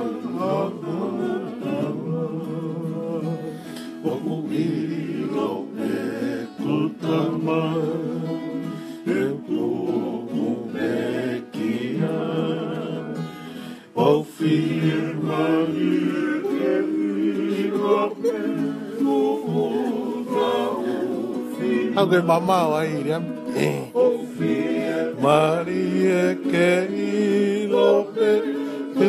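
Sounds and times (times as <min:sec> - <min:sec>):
men singing together: 0:00.0 - 0:22.7, 0:23.3 - 0:29.0
strummed acoustic guitar: 0:00.0 - 0:29.0.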